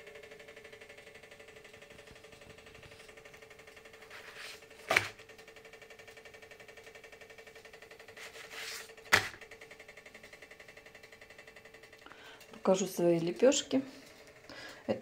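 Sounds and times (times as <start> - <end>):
faint pulsing hum: 0.0 - 15.0.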